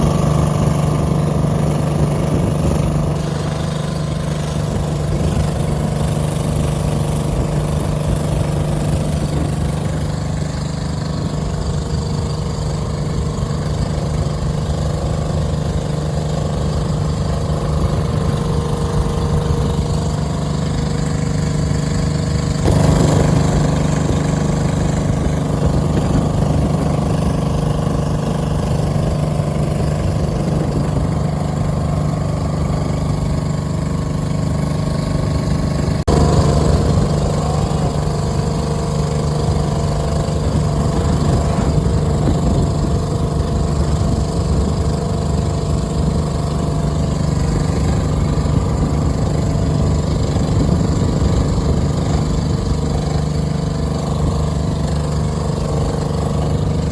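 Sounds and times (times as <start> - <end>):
boat engine humming: 0.0 - 56.9.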